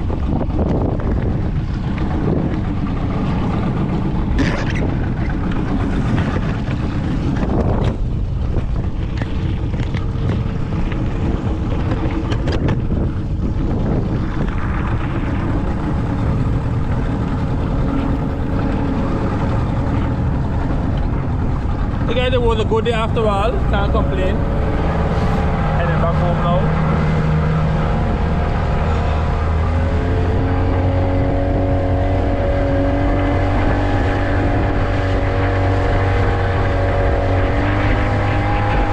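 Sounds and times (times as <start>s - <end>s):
motorboat engine running: 0.0s - 38.9s
wind buffeting microphone: 0.0s - 38.9s.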